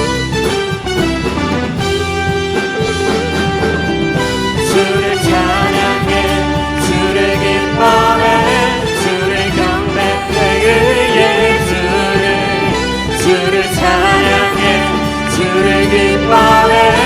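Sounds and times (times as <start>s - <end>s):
live band playing a carol: 0.0s - 17.0s.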